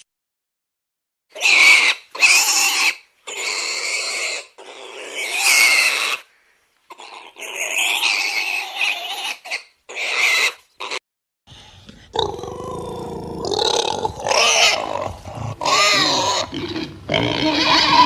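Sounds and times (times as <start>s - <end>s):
animal harsh calls: 1.3s - 6.3s, 6.9s - 11.0s, 12.2s - 18.0s.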